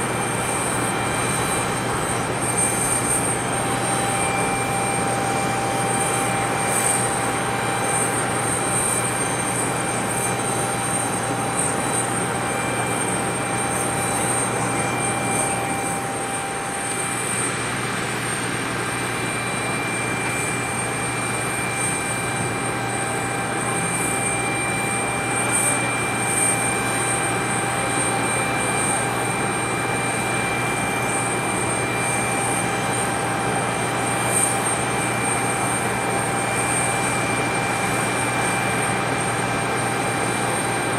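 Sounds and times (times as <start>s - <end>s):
aircraft engine whine: 0.0s - 40.9s.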